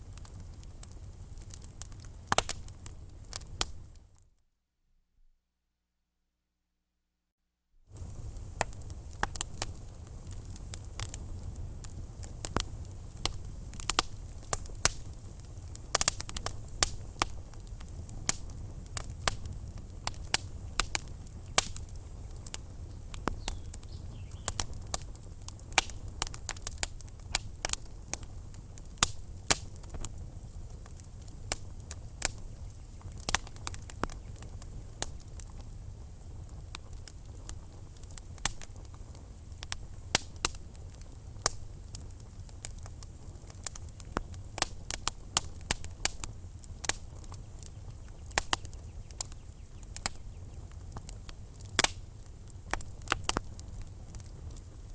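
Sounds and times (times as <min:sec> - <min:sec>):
low fire rumble: 0:00.0 - 0:04.1, 0:07.9 - 0:54.9
wood fire crackling: 0:00.0 - 0:04.2, 0:07.9 - 0:54.9.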